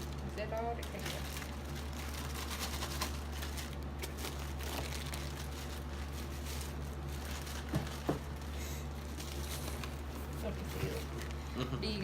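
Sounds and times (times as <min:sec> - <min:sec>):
packaging rustling and crinkling: 0:00.0 - 0:11.4.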